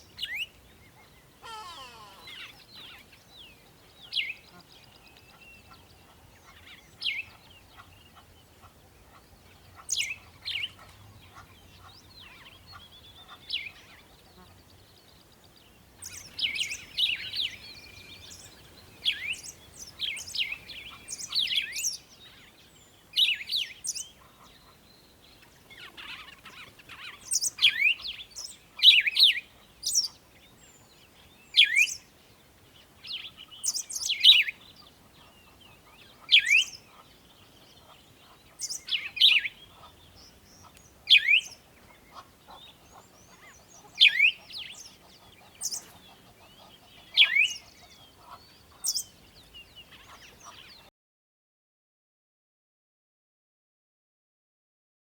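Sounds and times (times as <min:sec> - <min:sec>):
bird chirping: 0:00.0 - 0:32.2, 0:32.8 - 0:50.9.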